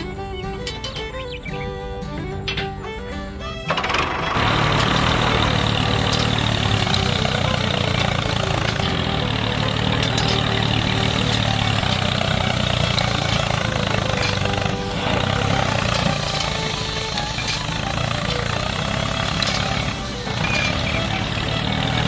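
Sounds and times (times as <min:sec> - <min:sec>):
engine humming: 0:00.0 - 0:22.0
music: 0:00.0 - 0:22.0.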